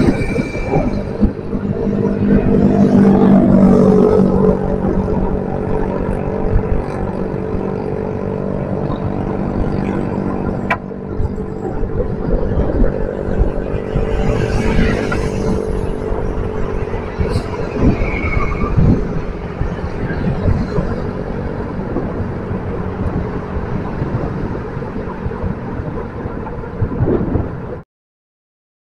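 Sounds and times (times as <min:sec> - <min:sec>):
motorbikes passing: 0:00.0 - 0:27.6
road traffic noise: 0:00.0 - 0:27.8.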